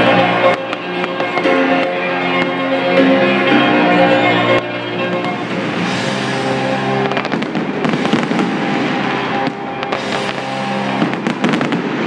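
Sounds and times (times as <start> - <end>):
fireworks bursting: 0.0 - 12.0
fireworks crackling: 0.0 - 12.0
loud music: 0.0 - 12.0.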